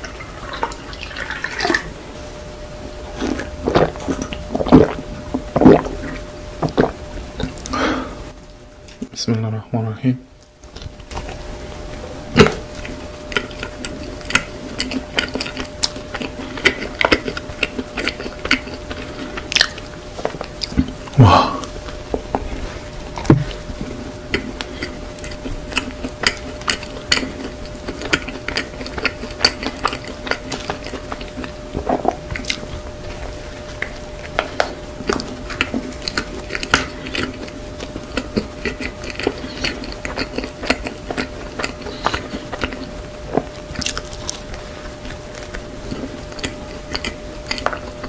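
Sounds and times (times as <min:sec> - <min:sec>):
chewing soft bread: 0:00.0 - 0:09.1, 0:10.4 - 0:48.0
faint steady hum: 0:00.0 - 0:48.0.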